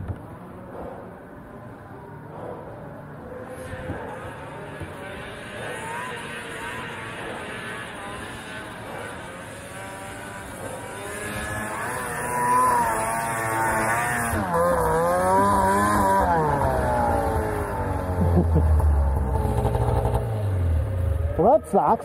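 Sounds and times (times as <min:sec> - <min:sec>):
snowmobile engine revving: 0:01.4 - 0:22.0.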